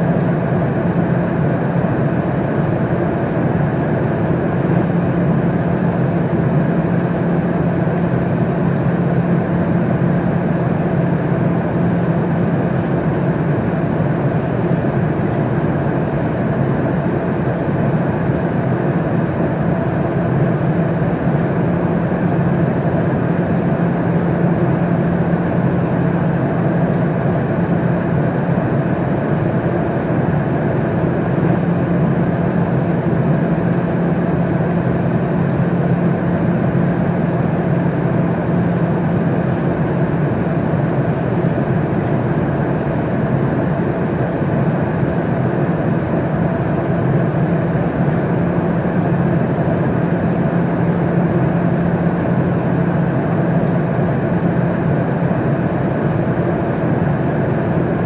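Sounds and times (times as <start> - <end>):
airliner cabin drone: 0.0 - 58.0.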